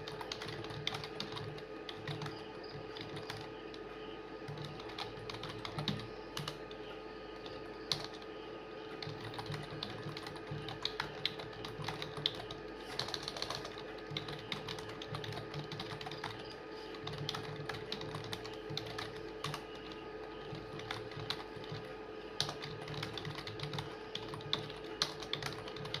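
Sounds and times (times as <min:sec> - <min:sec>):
fast keyboard typing: 0:00.0 - 0:06.7, 0:07.4 - 0:08.2, 0:09.0 - 0:26.0
faint steady hum: 0:00.0 - 0:26.0.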